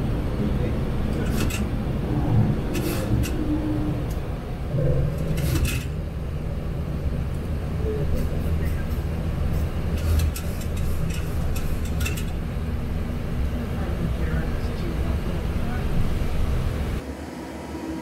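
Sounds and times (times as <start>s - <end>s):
airflow and engine rumble: 0.0s - 18.0s.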